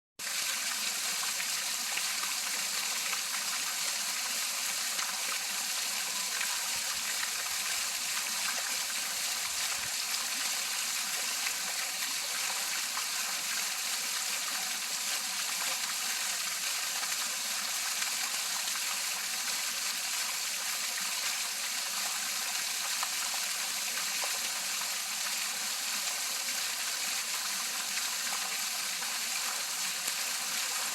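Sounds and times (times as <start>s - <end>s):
fountain splashing into pond: 0.2s - 30.9s.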